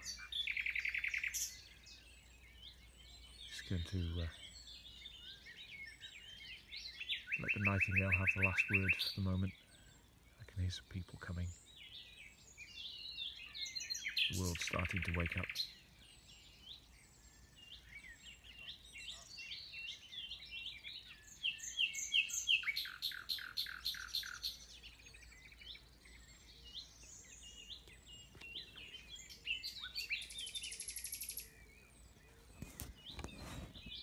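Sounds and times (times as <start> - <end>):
nightingale singing: 0.0 - 34.0.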